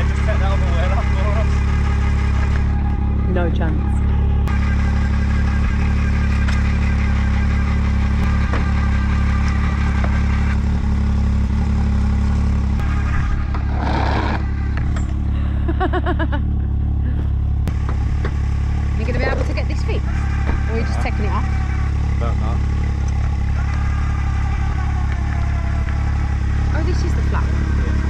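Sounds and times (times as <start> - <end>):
engine idling hum: 0.0 - 28.0.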